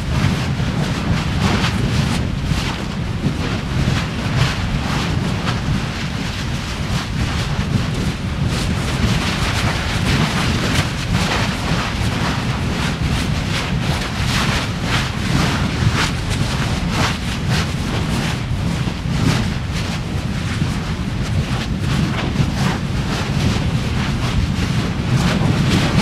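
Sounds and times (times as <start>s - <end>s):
lava spatter crackles: 0.0s - 26.0s
volcano low rumble: 0.0s - 26.0s
wind buffeting microphone: 0.0s - 26.0s.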